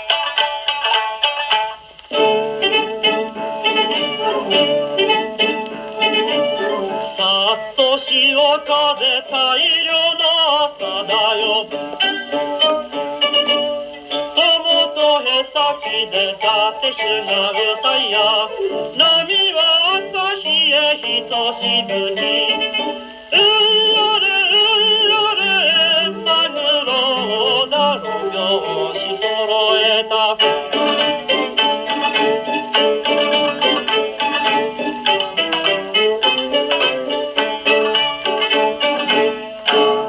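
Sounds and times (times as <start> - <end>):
gramophone record music: 0.0 - 40.0.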